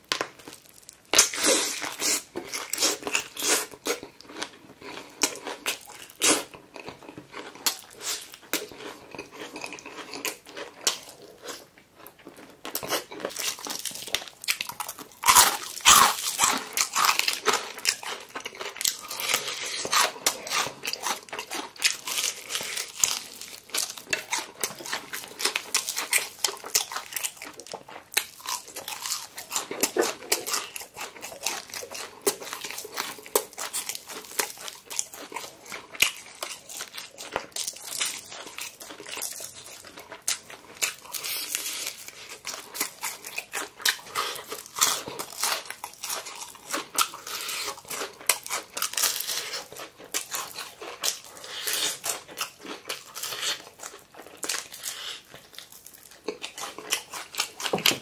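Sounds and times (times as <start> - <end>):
crunching and chewing fried chicken: 0.0 - 58.0.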